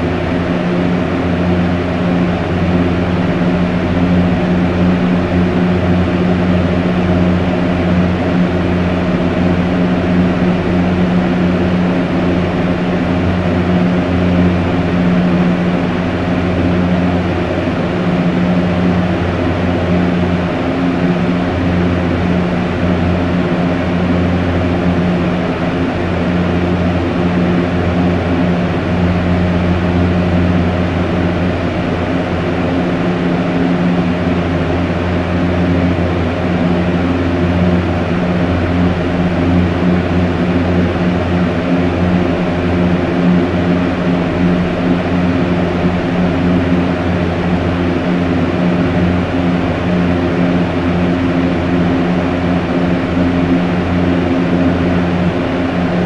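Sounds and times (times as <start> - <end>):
fan air rush: 0.0 - 56.0
low motor hum: 0.0 - 56.0.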